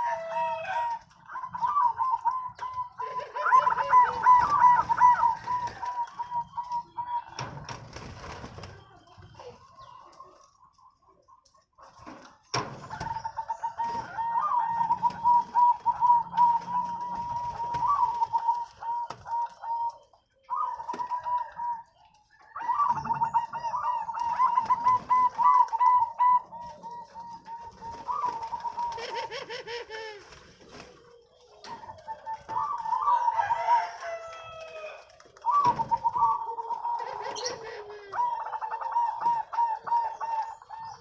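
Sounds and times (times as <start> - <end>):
dove cooing: 0.0 - 9.9, 12.0 - 41.0.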